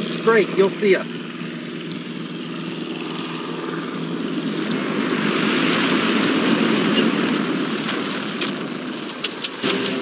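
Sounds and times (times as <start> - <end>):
propeller plane passing overhead: 0.0 - 10.0.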